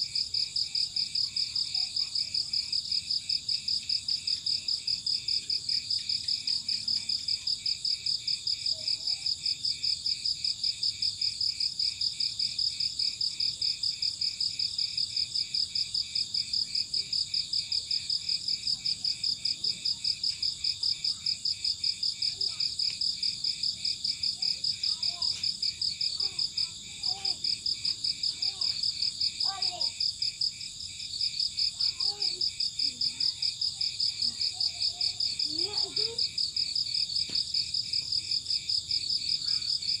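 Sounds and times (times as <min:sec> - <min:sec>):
cricket chirping: 0:02.5 - 0:40.0.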